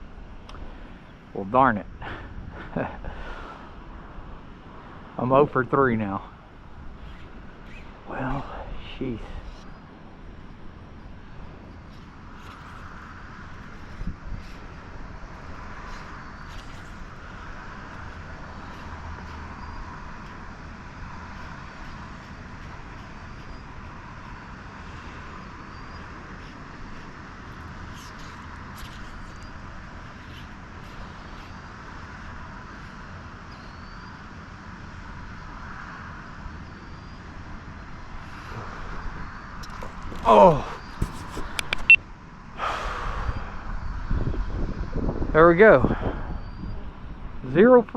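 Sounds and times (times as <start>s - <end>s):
wind buffeting microphone: 0.0s - 30.8s, 37.4s - 47.9s.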